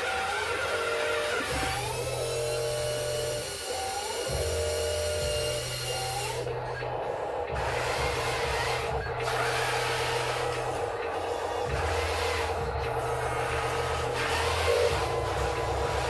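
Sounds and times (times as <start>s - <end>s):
machinery whining: 0.0s - 16.0s
low hum: 1.5s - 3.4s, 4.3s - 16.0s.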